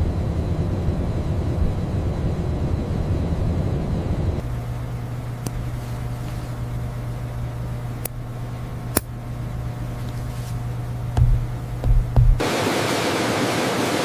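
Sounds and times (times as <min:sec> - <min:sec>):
low mechanical hum: 0:00.0 - 0:13.9.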